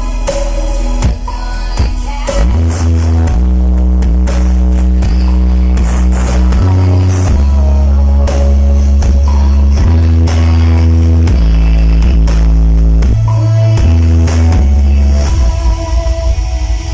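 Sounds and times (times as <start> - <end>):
heavy bass notes: 0.0 - 16.9
loud electronic dance music: 0.0 - 16.9.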